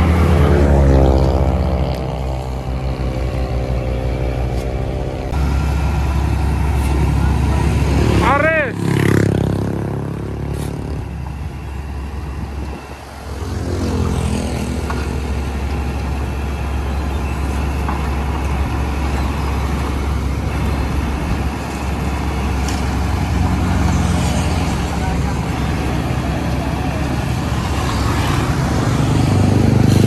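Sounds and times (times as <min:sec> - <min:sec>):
paver engine running under load: 0:00.0 - 0:30.0.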